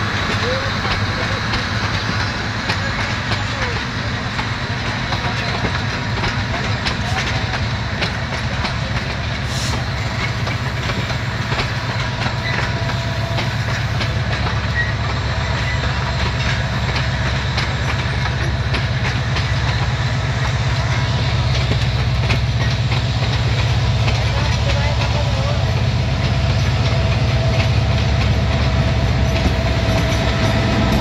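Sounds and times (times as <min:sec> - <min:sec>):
train coaches rumbling: 0:00.0 - 0:31.0
wheels clicking over rails: 0:00.1 - 0:31.0.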